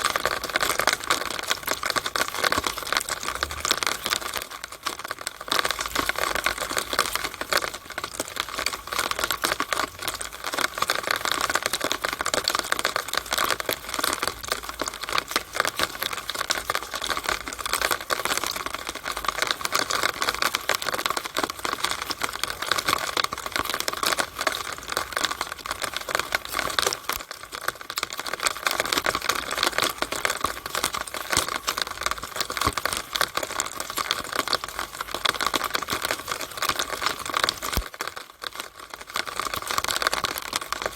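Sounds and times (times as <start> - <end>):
rainwater running through downspout: 0.0 - 40.9.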